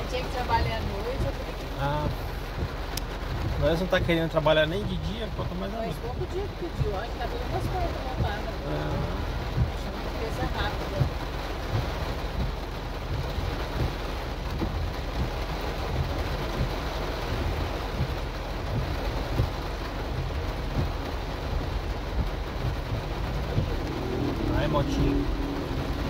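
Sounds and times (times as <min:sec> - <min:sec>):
heavy rain drumming on car roof: 0:00.0 - 0:26.0
steady low rumble: 0:00.0 - 0:26.0.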